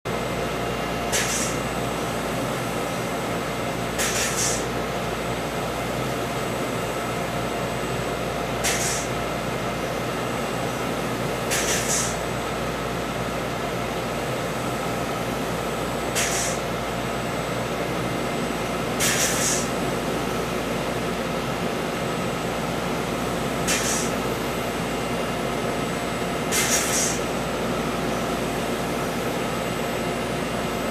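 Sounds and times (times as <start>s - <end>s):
machine hum and rushing air: 0.1s - 30.9s.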